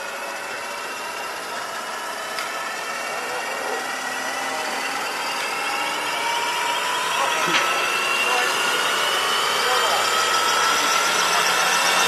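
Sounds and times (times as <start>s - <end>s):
model helicopter engine whine: 0.0s - 12.0s.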